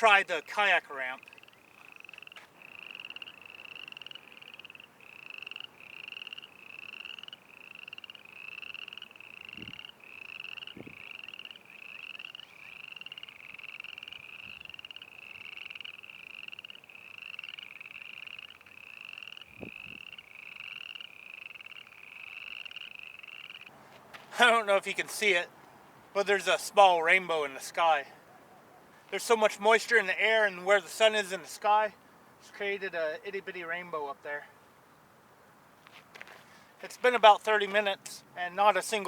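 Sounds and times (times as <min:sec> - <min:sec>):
frogs calling in chorus: 0:00.0 - 0:35.6.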